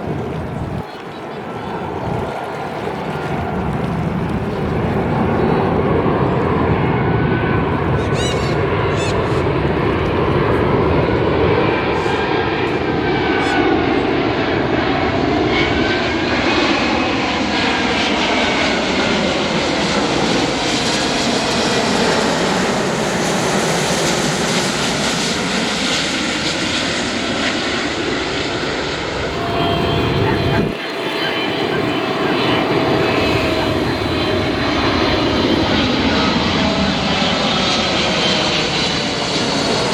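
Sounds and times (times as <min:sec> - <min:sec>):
jet airliner passing overhead: 0:00.0 - 0:39.9.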